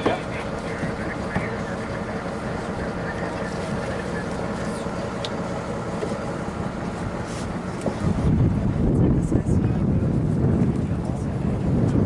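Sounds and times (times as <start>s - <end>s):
water rushing: 0.0s - 12.0s
wind: 0.0s - 12.0s.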